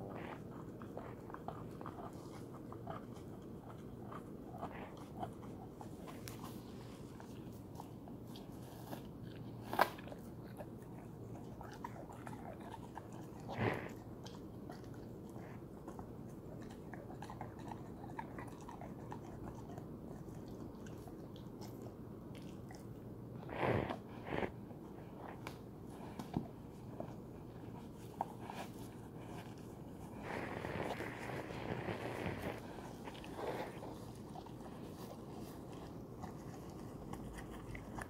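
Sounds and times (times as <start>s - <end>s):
dog chewing a tennis ball: 0.0s - 38.0s.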